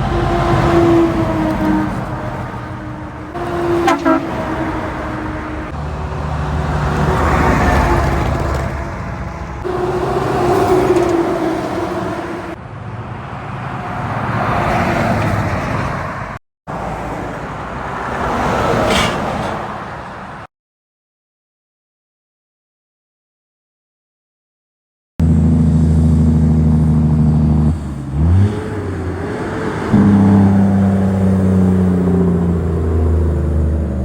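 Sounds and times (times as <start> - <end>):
heavy trucks passing: 0.0 - 20.5, 25.2 - 34.0.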